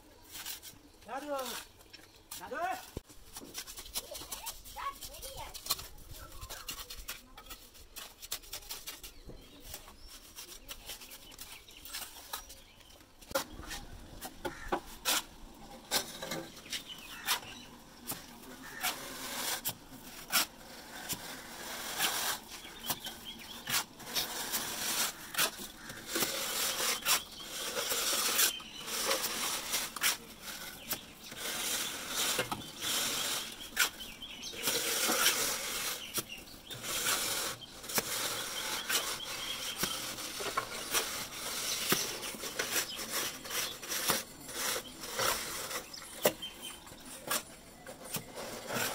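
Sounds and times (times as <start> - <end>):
trowels scraping wet mortar: 0.2 - 48.9.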